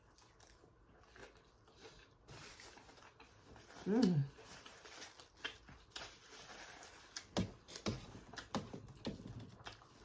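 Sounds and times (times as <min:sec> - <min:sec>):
chewing crisp salad greens: 0:00.0 - 0:10.0.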